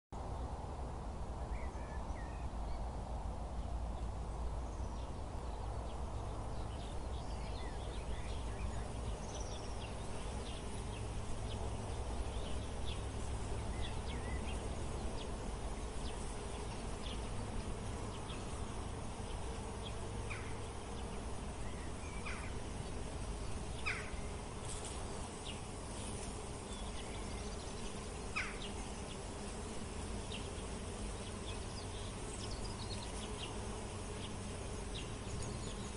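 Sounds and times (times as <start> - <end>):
insects buzzing: 0.2 - 35.9.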